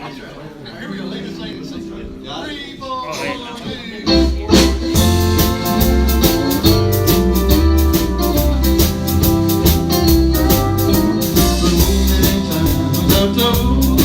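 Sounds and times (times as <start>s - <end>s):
live country band playing: 0.9s - 14.0s.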